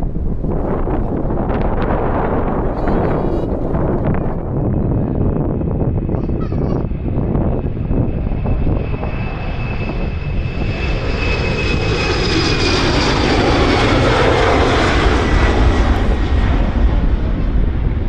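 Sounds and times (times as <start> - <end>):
jet engines roaring on takeoff: 0.0 - 18.0
wind rumble on microphone: 0.0 - 18.0.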